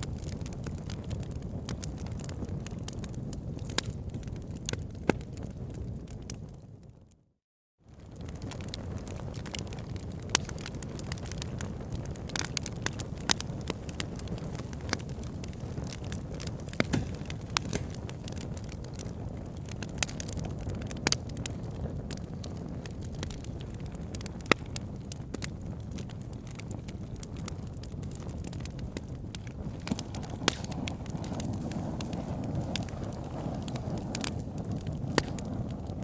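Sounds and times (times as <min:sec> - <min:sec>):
wood fire crackling: 0:00.0 - 0:06.9, 0:07.9 - 0:36.0.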